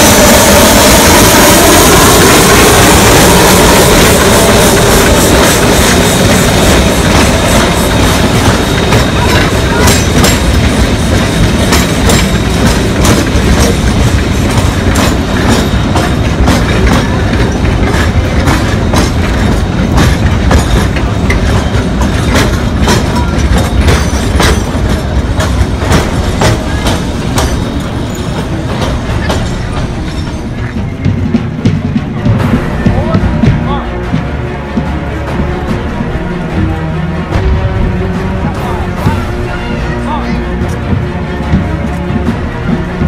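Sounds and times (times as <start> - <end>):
wheels clacking over rail joints: 0.0 - 37.6
train rolling rumble: 0.0 - 43.0.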